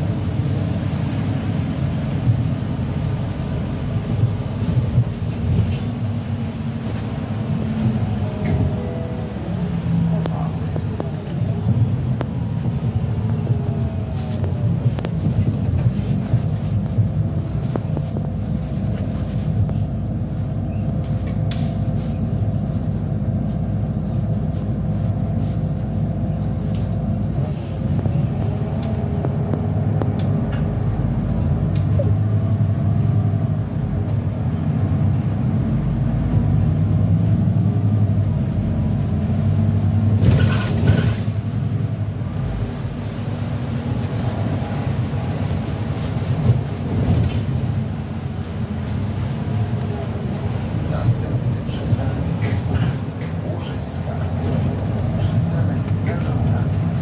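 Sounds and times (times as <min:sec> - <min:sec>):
bus drivetrain and road rumble: 0:00.0 - 0:57.0.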